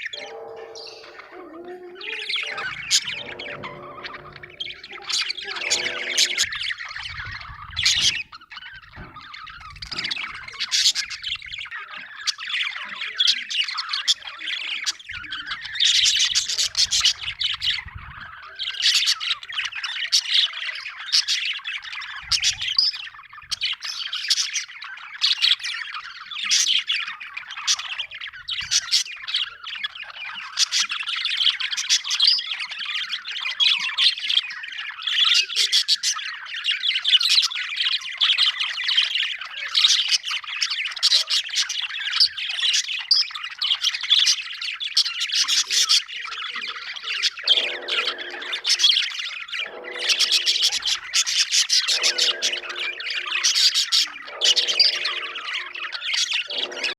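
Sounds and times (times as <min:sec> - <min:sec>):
parrots chattering and squawking: 0:00.0 - 0:56.9.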